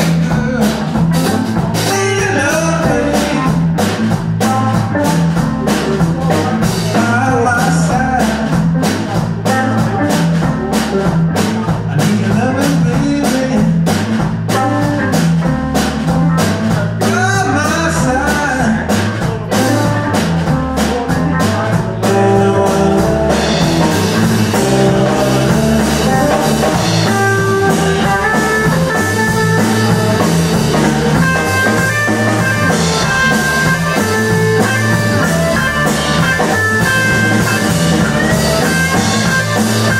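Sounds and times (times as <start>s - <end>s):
blues-rock band playing: 0.0s - 39.9s
person singing: 0.0s - 39.9s.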